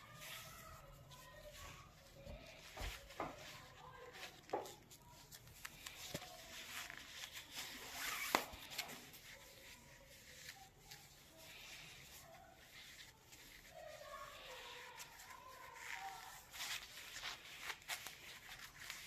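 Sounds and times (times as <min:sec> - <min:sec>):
fabric rustling: 0:00.0 - 0:19.0.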